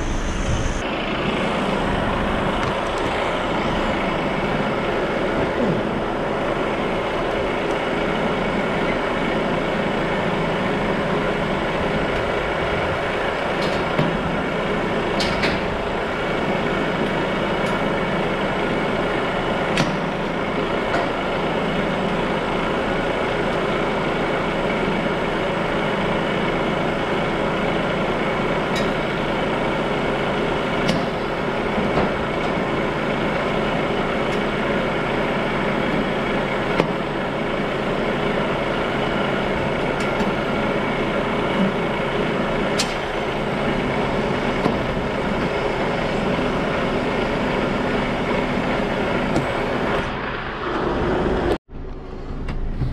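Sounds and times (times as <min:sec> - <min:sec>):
diesel engine idling: 0:00.0 - 0:52.8.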